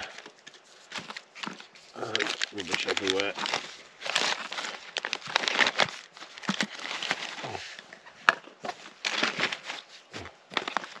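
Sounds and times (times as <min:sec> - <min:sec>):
plastic packets crinkling: 0:00.0 - 0:11.0.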